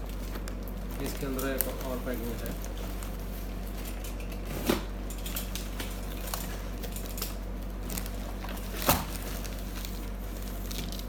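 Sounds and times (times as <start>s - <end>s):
packing rustling and ticking: 0.0s - 4.4s, 5.2s - 11.0s.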